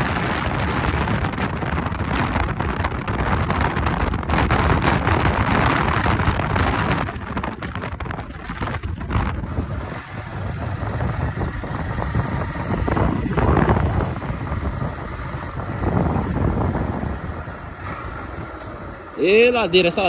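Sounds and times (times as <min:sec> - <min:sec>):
vehicle engine on dirt track: 0:00.0 - 0:20.0
wind buffeting microphone: 0:00.0 - 0:20.0
vehicle knocks and rattles: 0:00.1 - 0:16.9.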